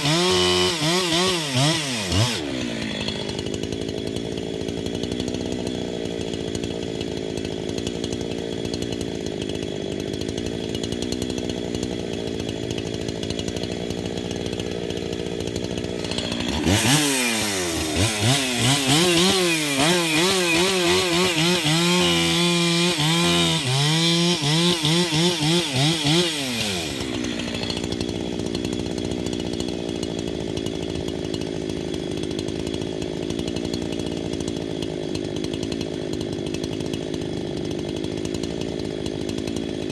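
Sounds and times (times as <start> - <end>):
chainsaw cutting log: 0.0 - 39.9
chainsaw idling: 0.0 - 39.9.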